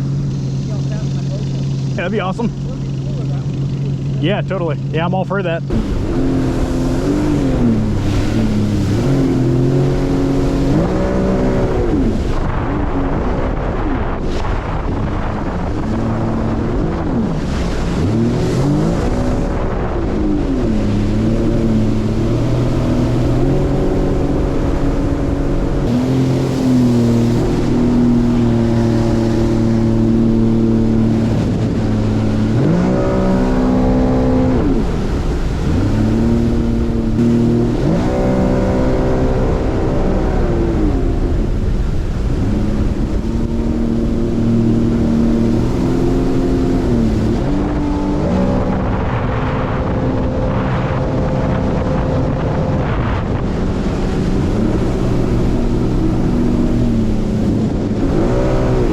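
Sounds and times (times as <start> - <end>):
rush of wind and water: 0.0 - 58.9
watercraft engine running: 0.0 - 58.9.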